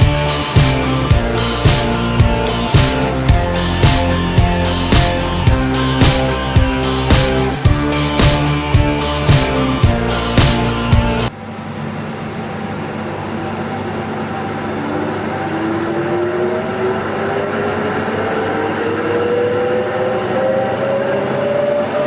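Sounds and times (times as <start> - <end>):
planer motor whine rising: 0.0 - 11.8, 12.9 - 22.0.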